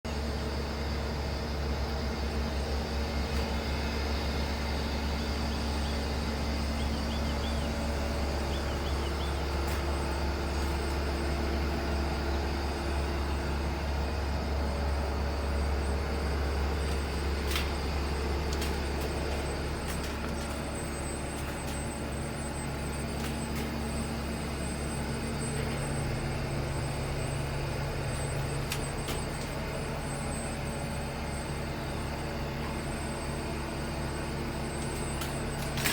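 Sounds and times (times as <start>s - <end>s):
heavy diesel engine rumbling: 0.1s - 35.9s.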